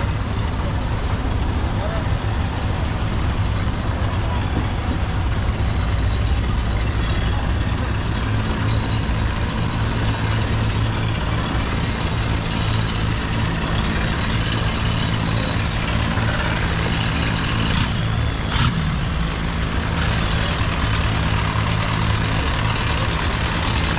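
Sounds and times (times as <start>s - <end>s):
boat engines idling: 0.0s - 23.9s.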